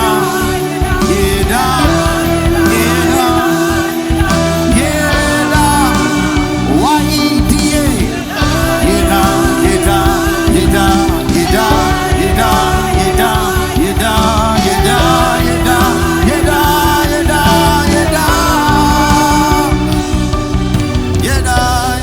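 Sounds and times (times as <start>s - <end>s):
music with singing: 0.0s - 22.0s.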